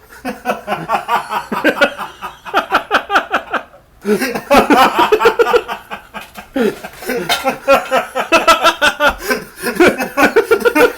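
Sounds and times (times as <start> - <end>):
people laughing hard: 0.1 - 10.9.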